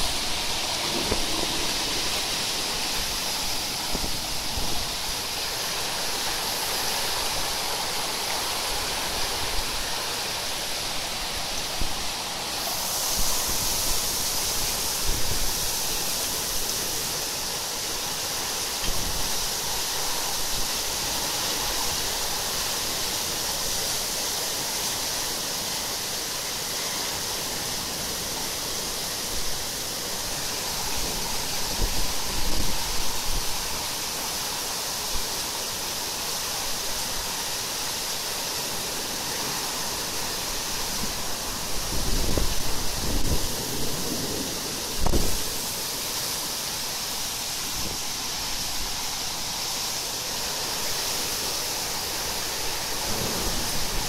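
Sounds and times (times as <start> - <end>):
wind gusts on microphone: 0.0 - 23.2, 27.7 - 34.0, 38.6 - 54.0
heavy rain pouring: 0.0 - 54.0.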